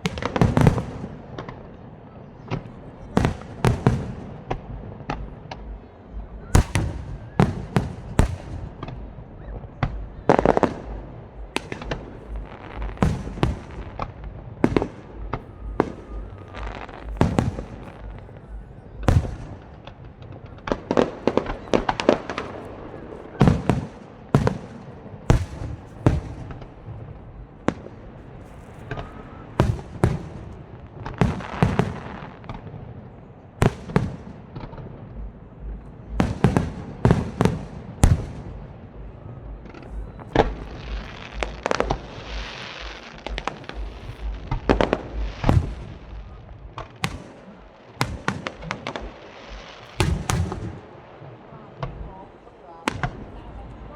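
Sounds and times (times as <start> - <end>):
hissing crackle of fireworks: 0.0 - 53.9.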